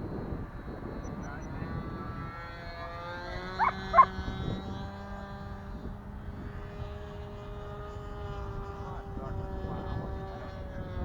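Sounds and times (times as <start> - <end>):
model airplane engine running: 0.1 - 11.0.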